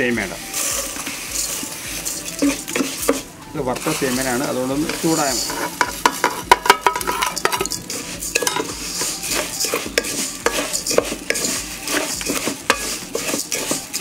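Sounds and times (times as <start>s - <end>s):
light sizzle: 0.0s - 14.0s
wooden spatula scraping metal pot: 0.2s - 14.0s.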